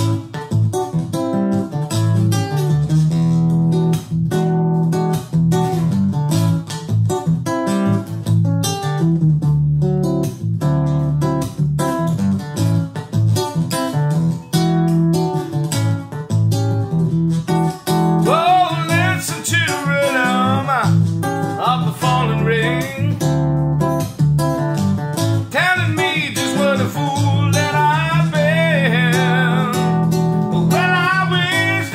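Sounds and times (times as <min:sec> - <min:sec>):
strummed guitar chords: 0:00.0 - 0:31.9.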